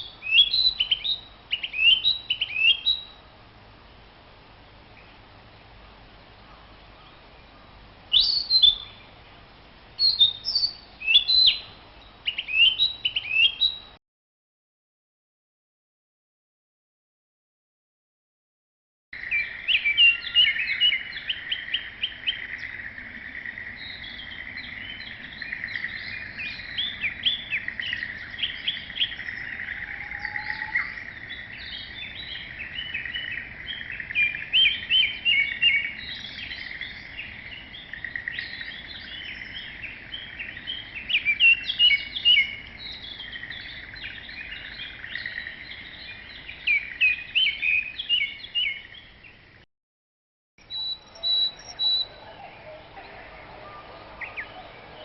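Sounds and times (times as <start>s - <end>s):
bird chirps and trills: 0.0s - 3.2s, 6.4s - 9.4s, 10.0s - 14.0s, 19.2s - 49.4s, 50.6s - 55.0s.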